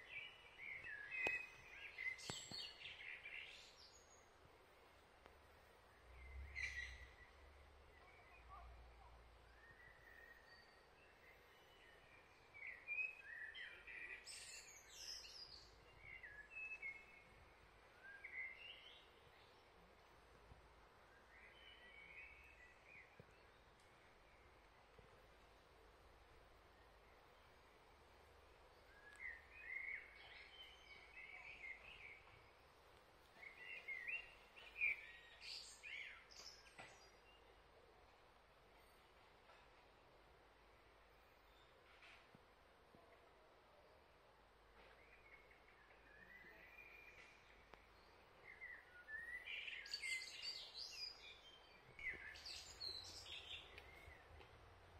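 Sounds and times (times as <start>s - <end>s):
faint steady hiss: 0.0s - 54.9s
songbird chirping: 0.0s - 54.9s.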